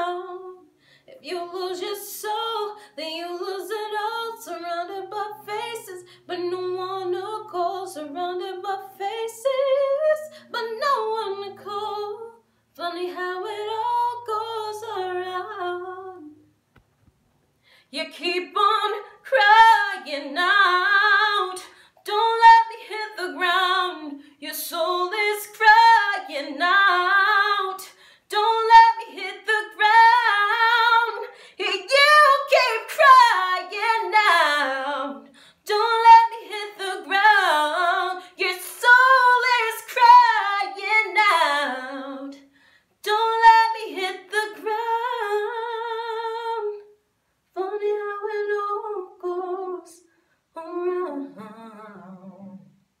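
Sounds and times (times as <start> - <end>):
woman singing unaccompanied: 0.0 - 16.4, 17.9 - 47.0, 47.6 - 50.0, 50.6 - 52.8.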